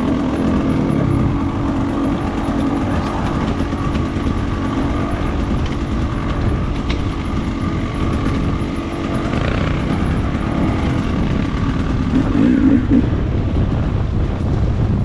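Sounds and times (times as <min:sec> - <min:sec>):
vehicle engine running roughly: 0:00.0 - 0:15.0.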